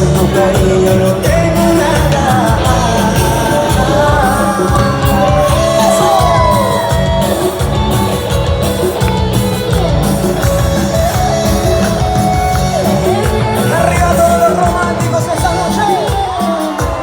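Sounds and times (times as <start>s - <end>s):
live band instrumental music: 0.0s - 17.0s.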